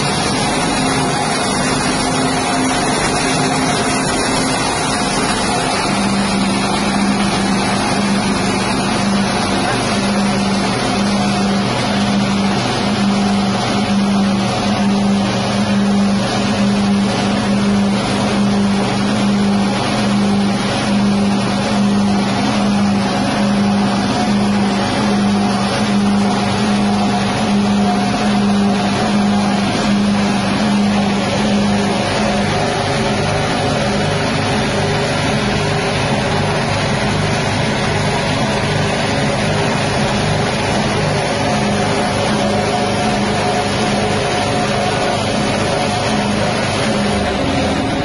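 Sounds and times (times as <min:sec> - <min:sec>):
petrol engine drone: 0:00.0 - 0:48.0.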